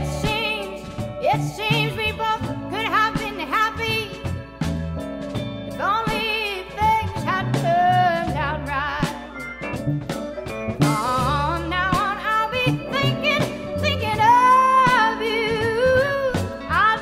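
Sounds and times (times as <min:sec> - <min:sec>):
song with singing over drums and bass: 0:00.0 - 0:17.0.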